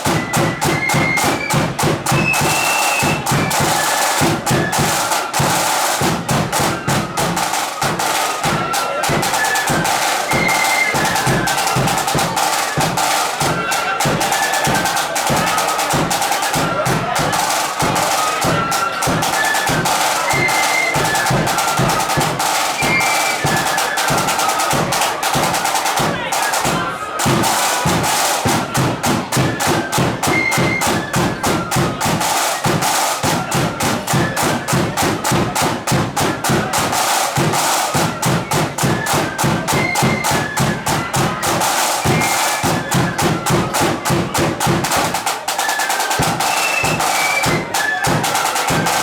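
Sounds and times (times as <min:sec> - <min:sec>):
flutes playing melody: 0:00.0 - 0:49.0
snare and bass drums march beat: 0:00.0 - 0:49.0.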